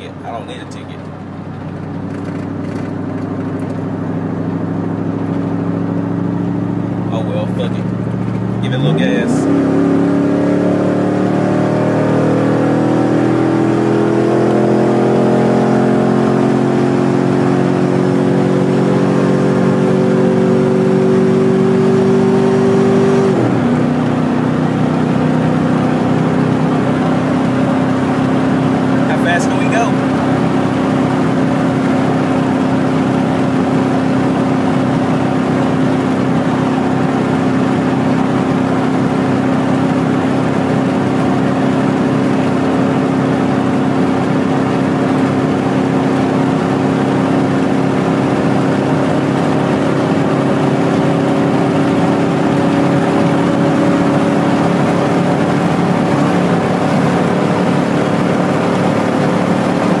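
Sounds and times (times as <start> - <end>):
truck engine accelerating: 0.0 - 60.0.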